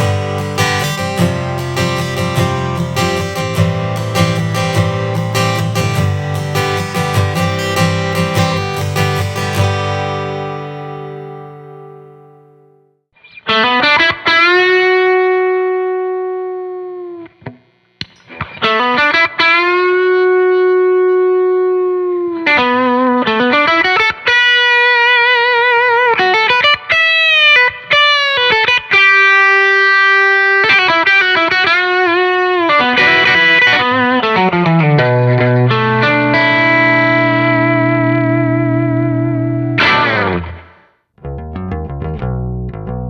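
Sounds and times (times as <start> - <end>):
distorted electric guitar lead: 0.0 - 43.0.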